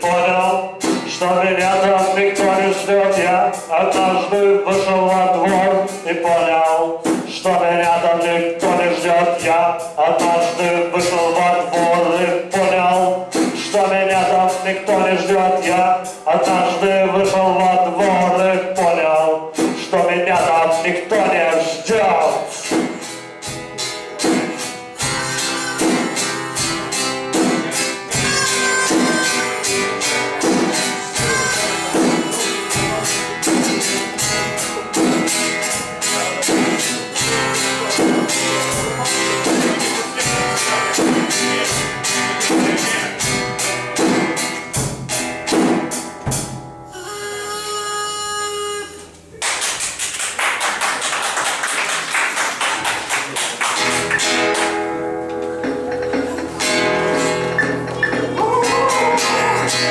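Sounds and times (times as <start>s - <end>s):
acoustic guitar strumming: 0.0s - 49.4s, 53.6s - 59.9s
live instrumental band: 0.0s - 59.9s.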